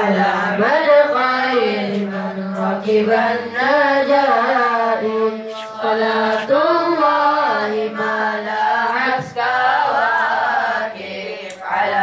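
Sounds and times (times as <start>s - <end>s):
boys singing together: 0.0s - 12.0s.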